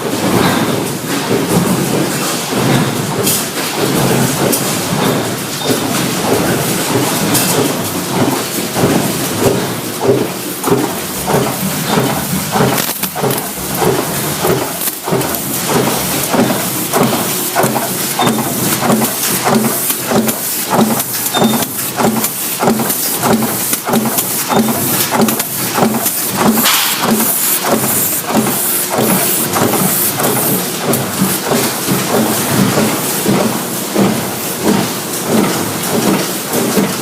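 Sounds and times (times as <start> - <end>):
clattering machinery knocks: 0.1 - 37.0.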